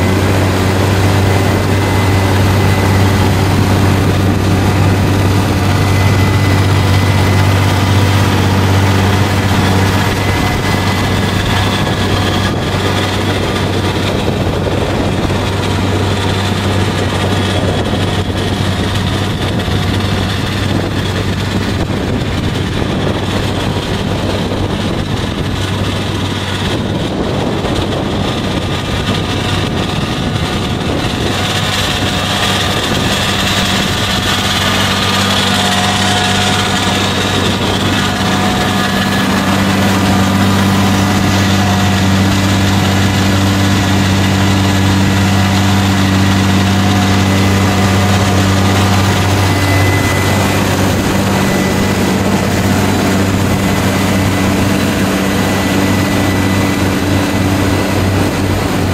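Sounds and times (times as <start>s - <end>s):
harrow rushing through soil: 0.0s - 58.9s
tractor diesel engine running: 0.0s - 58.9s.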